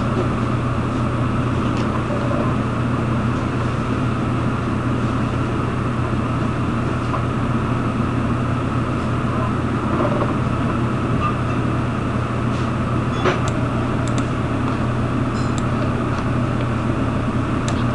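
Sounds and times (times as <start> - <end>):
machine hum with hiss: 0.0 - 17.9.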